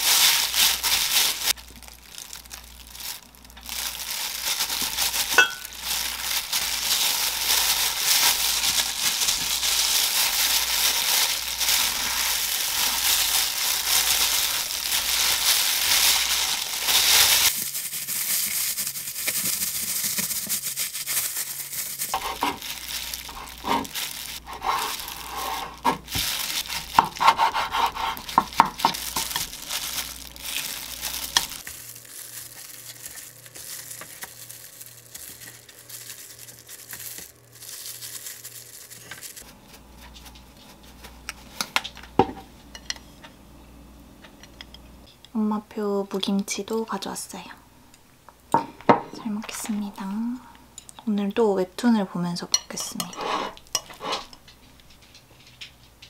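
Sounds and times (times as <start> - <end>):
plastic gloves crinkling: 0.0 - 42.8, 48.3 - 56.0.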